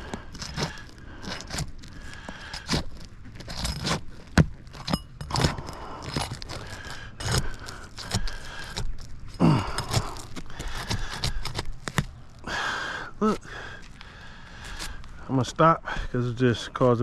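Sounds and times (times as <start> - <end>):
roof shingles tearing: 0.0 - 13.9.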